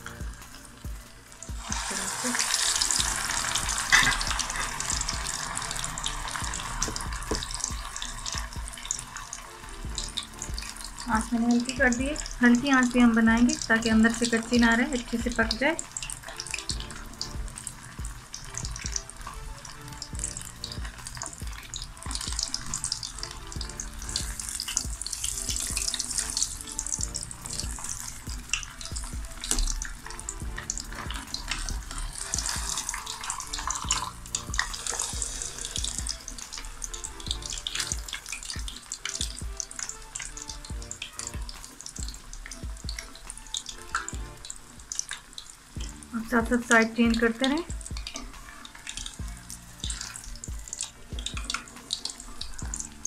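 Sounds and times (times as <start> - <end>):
fish deep-frying in oil: 0.0 - 53.0.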